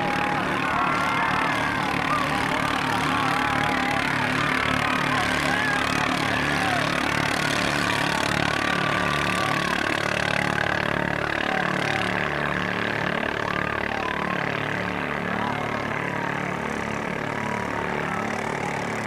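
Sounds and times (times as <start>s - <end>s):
racing boat engines droning: 0.0s - 19.0s.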